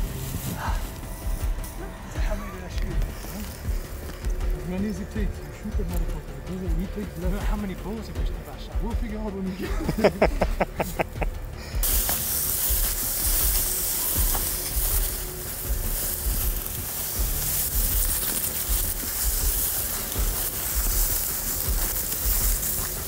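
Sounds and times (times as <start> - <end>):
dry grass rustling against microphone: 0.0 - 23.0.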